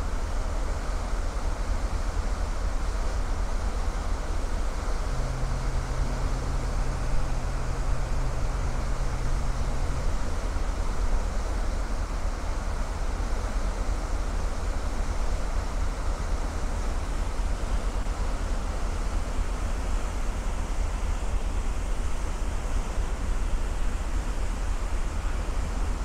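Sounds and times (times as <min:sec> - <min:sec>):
ship engine low rumble: 0:00.0 - 0:26.0
steady low hum: 0:00.0 - 0:26.0.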